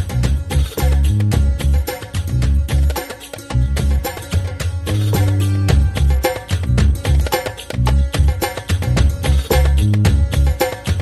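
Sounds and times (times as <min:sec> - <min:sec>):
low bass notes: 0:00.0 - 0:10.6
rhythmic percussion: 0:00.0 - 0:11.0.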